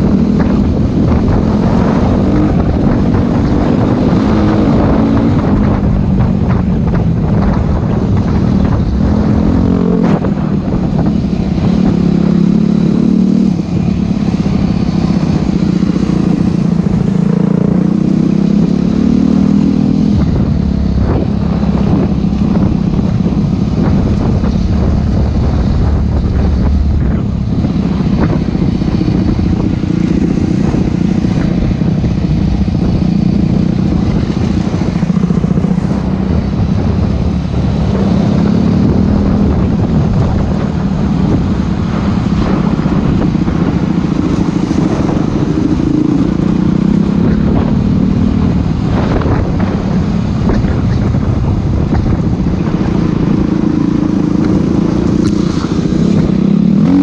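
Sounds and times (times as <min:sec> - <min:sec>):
dirt bike engine revving: 0:07.8 - 0:57.0.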